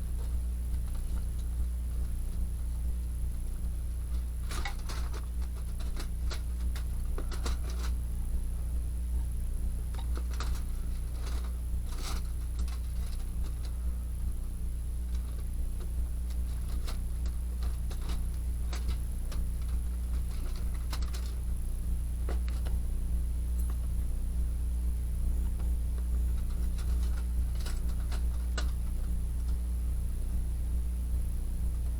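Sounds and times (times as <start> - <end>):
light clicks and crackles: 0.0 - 24.2, 25.2 - 30.8
steady low hum: 0.0 - 31.9.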